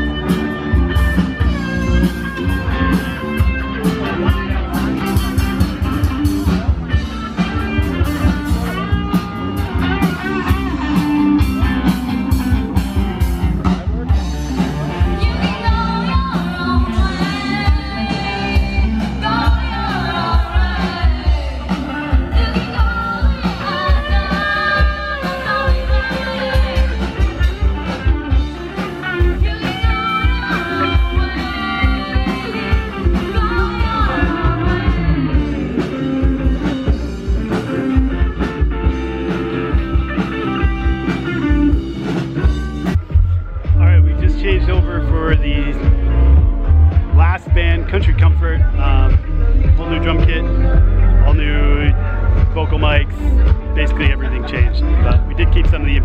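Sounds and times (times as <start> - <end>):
rock song with singer: 0.0 - 56.0.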